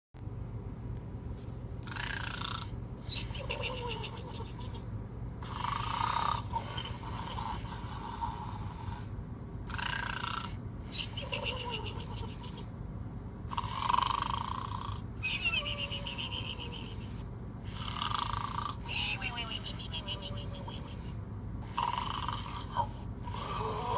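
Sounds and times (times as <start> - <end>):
steady low hum: 0.2 - 23.9
toy electronic snoring: 1.9 - 12.8, 13.5 - 23.9.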